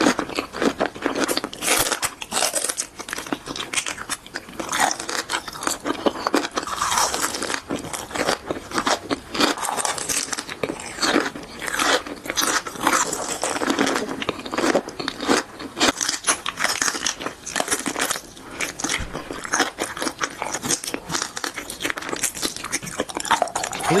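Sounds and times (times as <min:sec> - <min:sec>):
crunching crisp food: 0:00.0 - 0:24.0.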